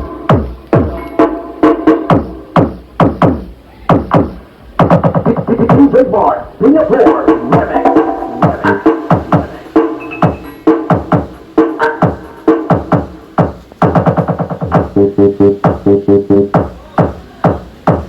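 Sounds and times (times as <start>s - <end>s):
punchy kick drums: 0.0s - 6.1s, 6.9s - 11.4s, 12.0s - 18.0s
electronic dance music: 0.0s - 18.0s.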